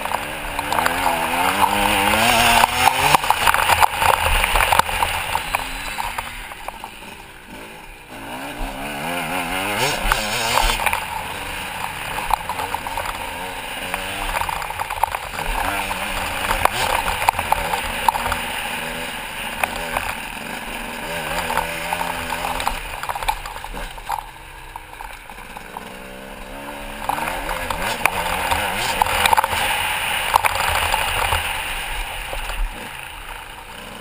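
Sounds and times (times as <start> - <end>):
sharp knocks from bumpy track: 0.0 - 7.2, 8.6 - 18.9, 19.5 - 32.7
motocross bike engine revving: 0.0 - 34.0.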